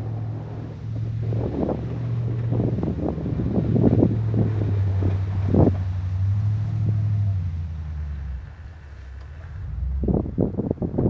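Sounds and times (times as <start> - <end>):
pickup diesel engine running: 0.0 - 11.0
wind buffeting microphone: 0.0 - 11.0
snow scraping against plow blade: 0.1 - 10.2.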